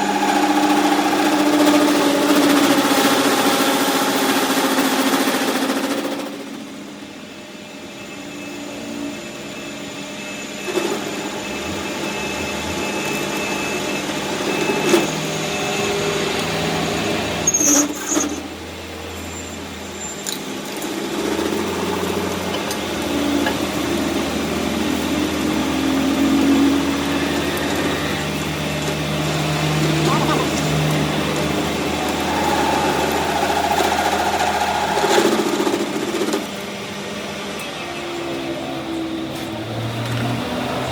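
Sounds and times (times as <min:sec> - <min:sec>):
high squeal: 0:00.0 - 0:39.6
workshop machinery running: 0:00.0 - 0:40.9.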